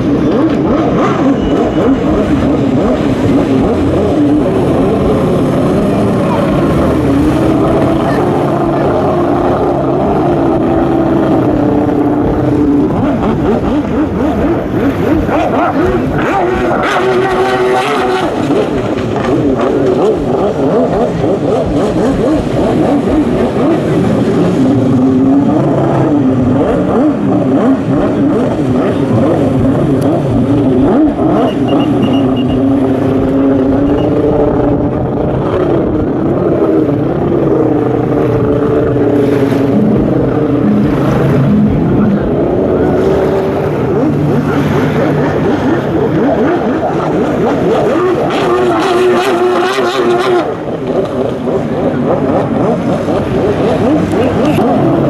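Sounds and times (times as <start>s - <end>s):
jet ski engine revving: 0.0s - 55.0s.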